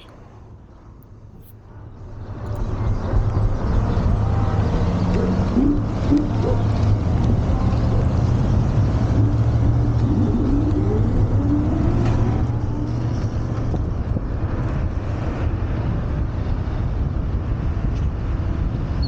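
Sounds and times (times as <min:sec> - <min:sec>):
wind and road rumble: 0:00.0 - 0:19.0.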